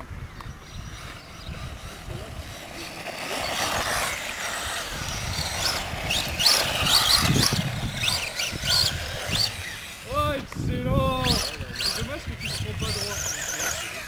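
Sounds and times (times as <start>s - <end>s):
motor whines: 0.0s - 14.0s
radio-controlled buggy motor: 0.0s - 14.0s.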